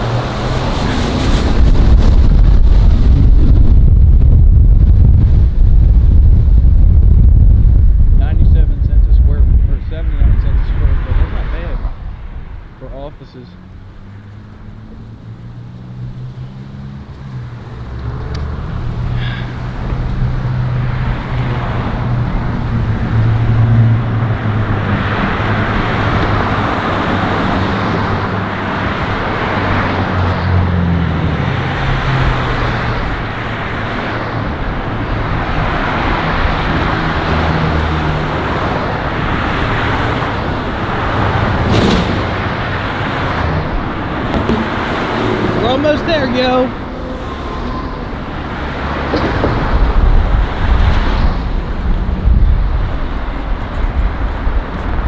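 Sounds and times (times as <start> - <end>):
busy road traffic: 0.0 - 55.0.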